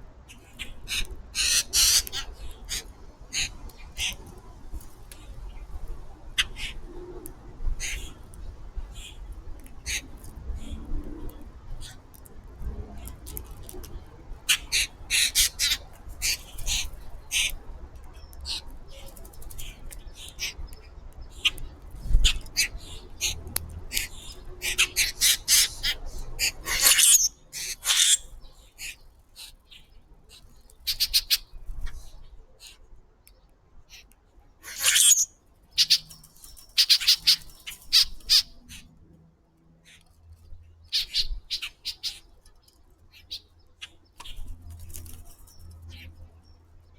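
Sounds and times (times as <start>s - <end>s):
birds chirping and calling: 0.3s - 4.3s, 6.4s - 7.0s, 7.7s - 12.0s, 13.0s - 32.9s, 33.9s - 39.0s, 39.8s - 46.7s.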